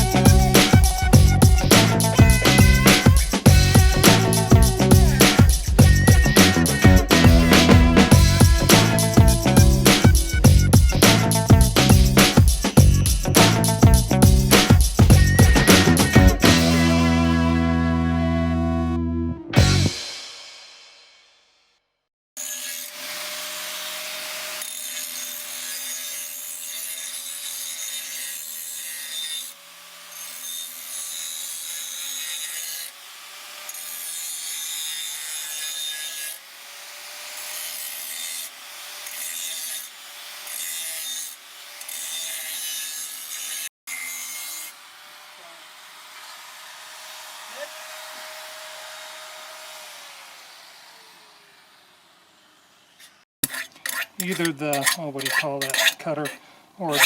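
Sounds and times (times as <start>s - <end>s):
power tool grinding metal: 0.0s - 19.0s, 22.4s - 57.0s.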